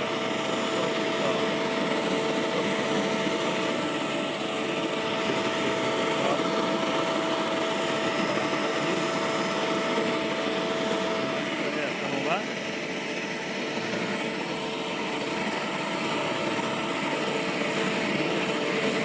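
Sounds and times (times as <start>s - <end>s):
leaf blower running: 0.0s - 19.0s.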